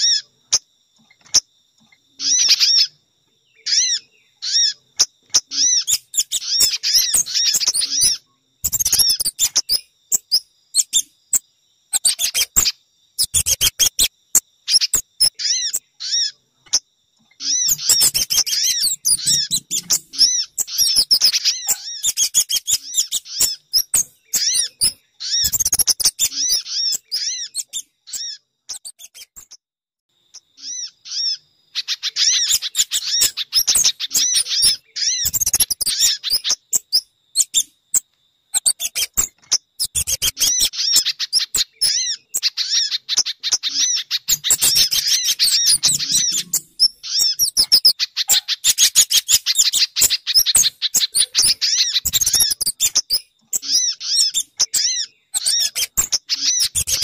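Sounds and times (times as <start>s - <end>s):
small birds chirping rapidly: 0.0s - 29.6s, 30.2s - 57.0s.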